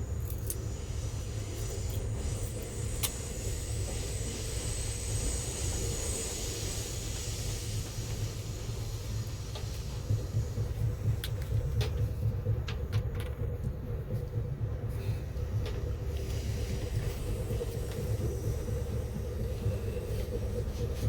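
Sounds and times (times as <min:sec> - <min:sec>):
train running rumble: 0:00.0 - 0:21.0.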